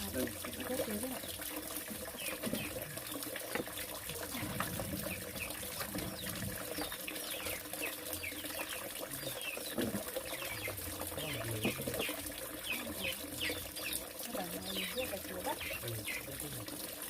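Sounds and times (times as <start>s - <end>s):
water running: 0.0s - 17.0s.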